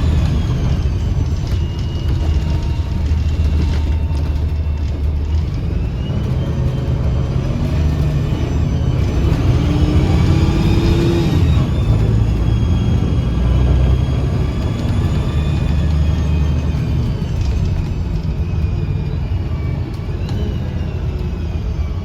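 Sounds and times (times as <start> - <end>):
bus drivetrain rumble: 0.0 - 22.0
rising whistling whine: 0.0 - 22.0.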